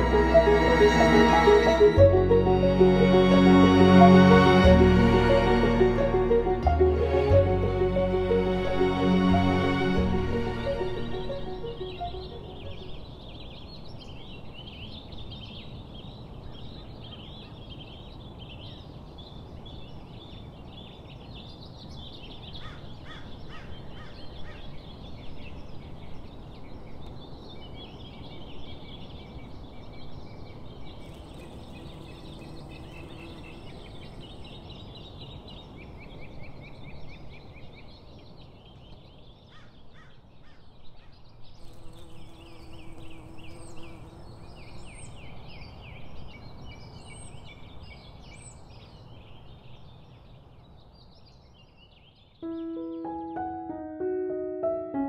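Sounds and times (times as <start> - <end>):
songbirds chirping and singing: 7.3 - 53.7.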